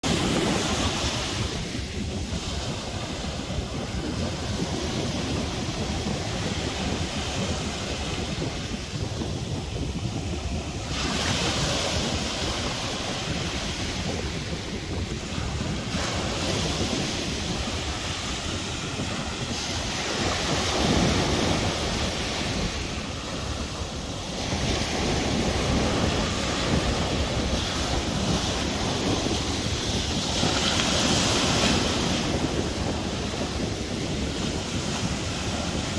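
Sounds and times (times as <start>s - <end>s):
sea waves breaking: 0.0s - 35.9s
wind rumbling on microphone: 0.0s - 35.9s.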